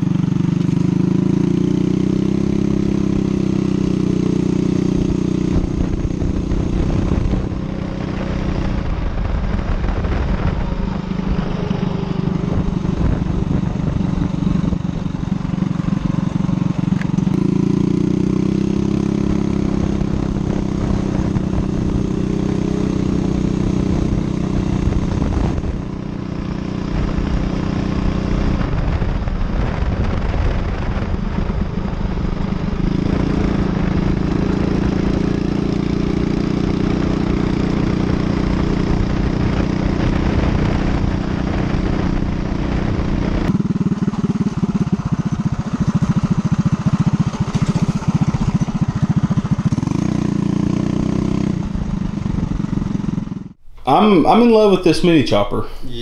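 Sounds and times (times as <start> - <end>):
motorcycle engine running: 0.0 - 54.7.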